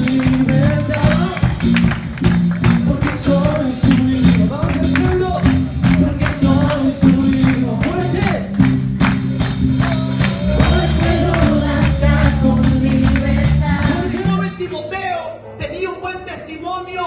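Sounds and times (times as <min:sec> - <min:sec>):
person singing: 0:00.0 - 0:08.8, 0:09.7 - 0:14.8
bass line: 0:00.0 - 0:14.8
upbeat gospel music: 0:00.0 - 0:14.8.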